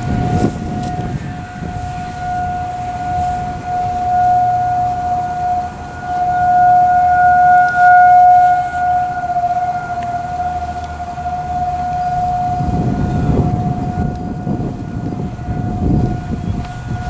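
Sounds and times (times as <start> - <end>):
rotating warning sirens wailing: 0.0 - 17.0.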